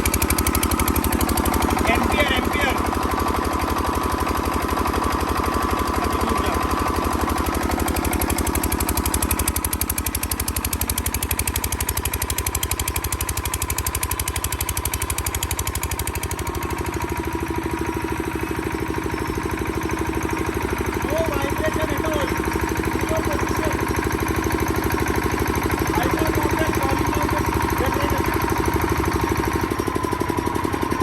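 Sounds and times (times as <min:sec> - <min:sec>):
diesel generator running: 0:00.0 - 0:31.0.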